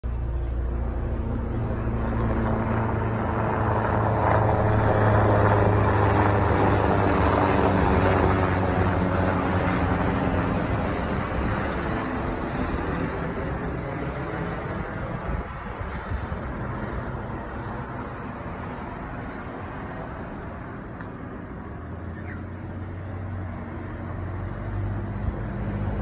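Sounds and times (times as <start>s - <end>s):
helicopter flying overhead: 0.0s - 26.0s.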